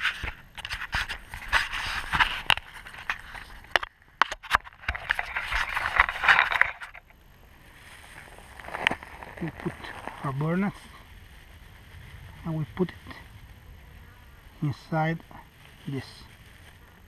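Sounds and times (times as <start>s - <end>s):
twigs rustling and scraping: 0.0s - 17.0s.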